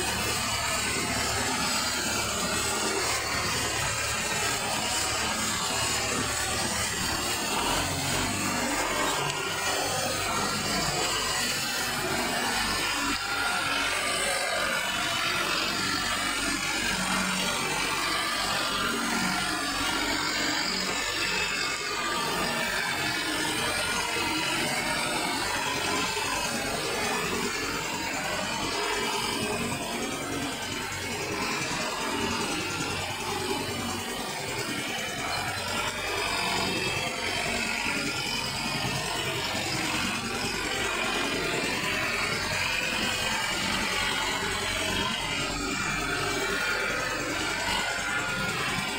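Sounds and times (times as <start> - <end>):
rotary tiller churning mud: 0.0 - 48.9
tractor diesel engine running: 0.0 - 48.9.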